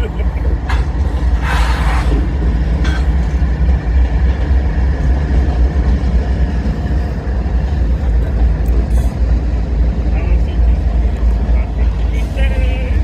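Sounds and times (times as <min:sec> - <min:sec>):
freight locomotives rumbling past: 0:00.0 - 0:13.0.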